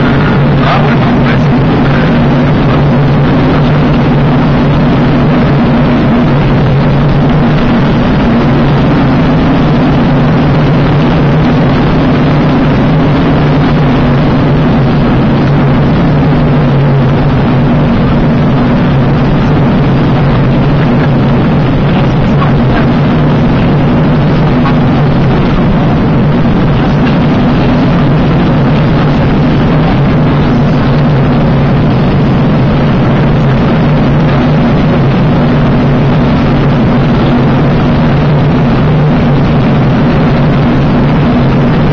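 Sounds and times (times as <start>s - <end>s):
airflow noise: 0.0s - 41.9s
small aircraft engine droning: 0.0s - 41.9s.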